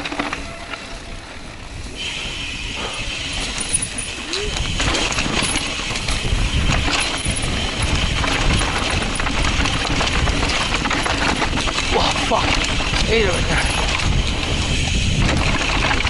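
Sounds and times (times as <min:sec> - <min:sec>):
bike rattling and clicking: 0:00.0 - 0:16.0
bike tyres over dirt and rock: 0:00.0 - 0:16.0
wind on microphone: 0:00.4 - 0:16.0.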